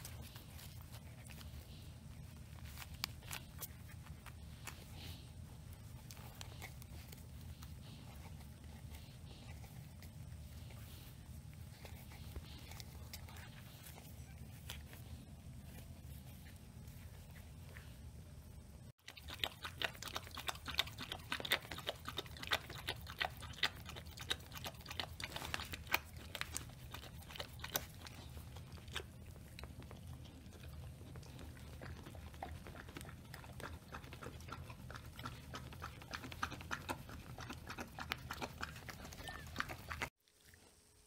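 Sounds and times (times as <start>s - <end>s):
puppies suckling: 0.0s - 18.0s, 18.9s - 40.2s.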